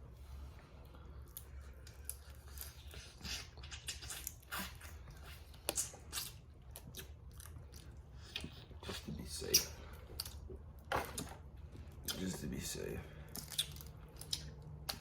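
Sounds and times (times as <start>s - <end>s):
wet chewing: 0.8s - 15.0s.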